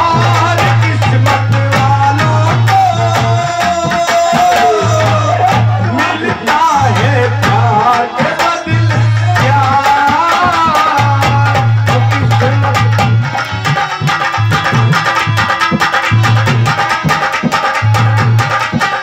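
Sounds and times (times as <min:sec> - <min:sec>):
fast hand-drum playing: 0:00.0 - 0:19.0.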